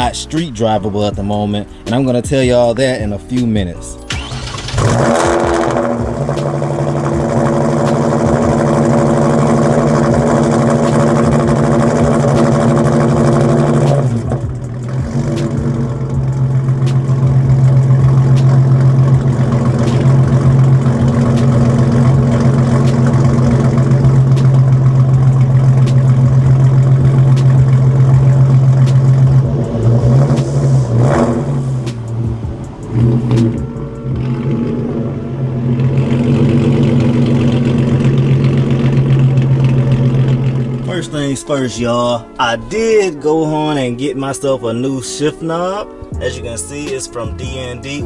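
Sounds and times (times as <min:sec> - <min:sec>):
car engine idling: 0:00.0 - 0:44.8.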